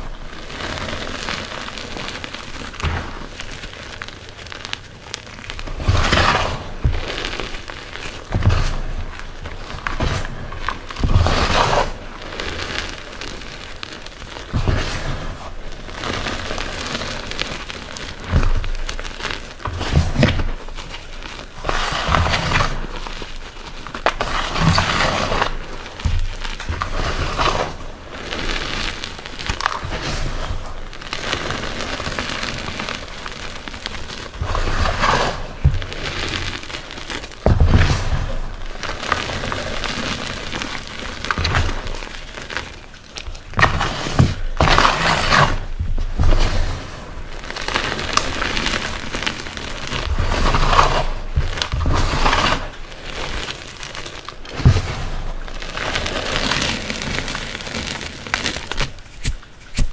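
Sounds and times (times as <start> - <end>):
steady rain: 0.0 - 59.1
hands crushing chalk powder: 0.0 - 59.9.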